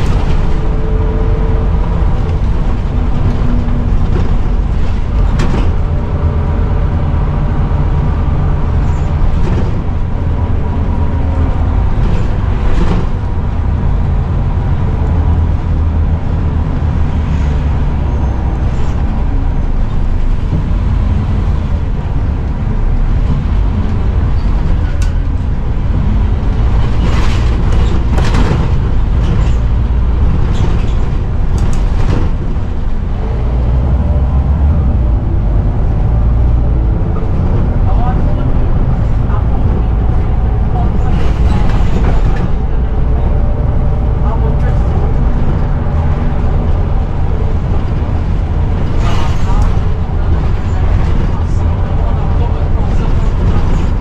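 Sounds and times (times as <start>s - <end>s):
bus body knocks and rattles: 0.0s - 17.1s, 18.4s - 33.2s, 36.9s - 54.0s
bus engine rumble: 0.0s - 54.0s.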